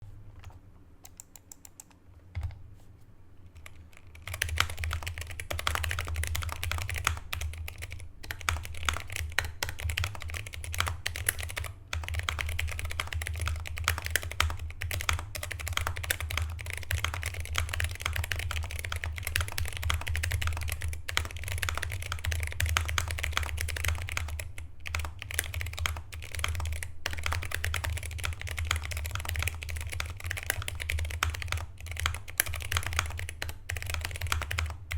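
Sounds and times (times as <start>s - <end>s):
mechanical keyboard typing: 1.0s - 2.6s, 3.6s - 34.9s.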